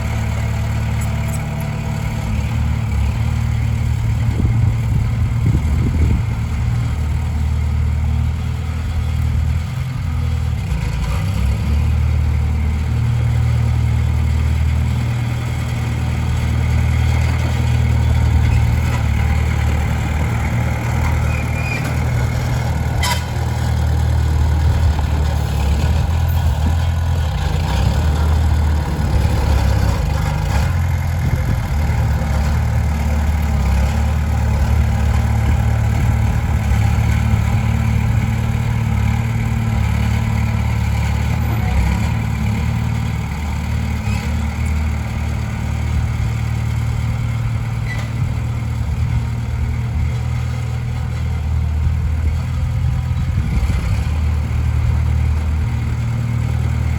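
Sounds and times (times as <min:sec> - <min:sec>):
bulldozer diesel engine: 0:00.0 - 0:56.9.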